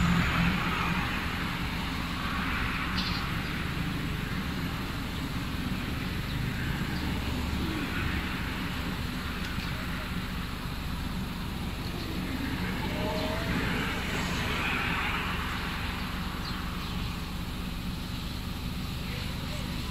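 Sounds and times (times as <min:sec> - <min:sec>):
steady low hum: 0:00.0 - 0:19.9
vehicles passing: 0:00.0 - 0:19.9.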